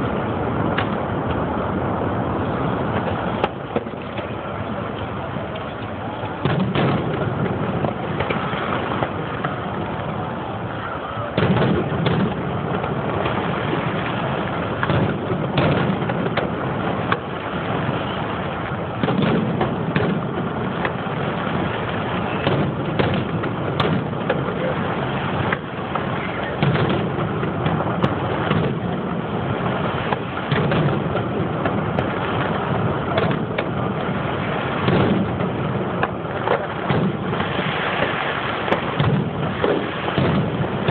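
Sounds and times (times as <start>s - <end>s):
continuous rumbling noise: 0.0s - 40.9s
firework shells bursting: 5.6s - 10.3s, 11.3s - 40.9s.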